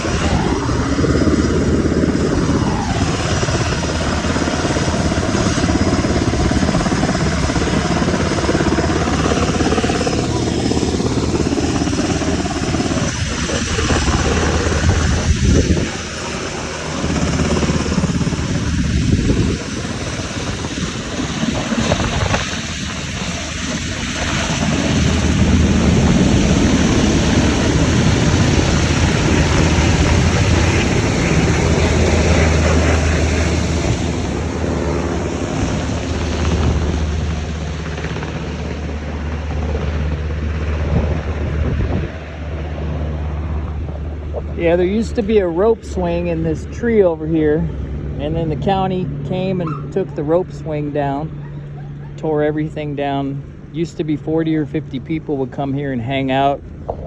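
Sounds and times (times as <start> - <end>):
helicopter rotor drone: 0.0 - 57.0
turbine whine: 0.0 - 57.0.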